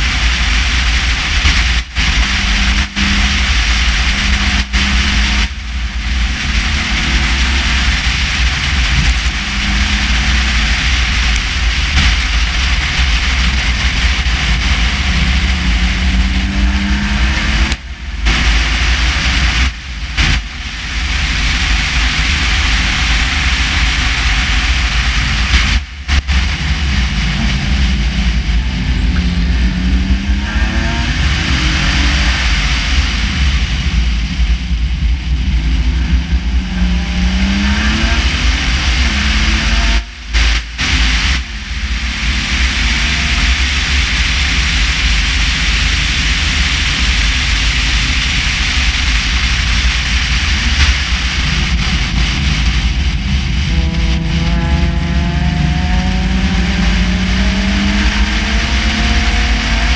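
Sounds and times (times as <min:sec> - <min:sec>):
race car engine: 0:00.0 - 0:59.9
road rumble: 0:00.0 - 0:59.9
wind noise: 0:00.0 - 0:59.9.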